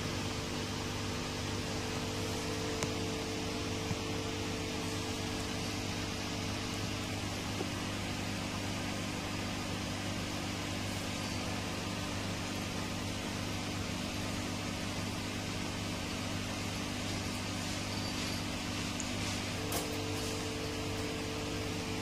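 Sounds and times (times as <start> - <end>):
mechanical hum with hiss: 0.0 - 22.0.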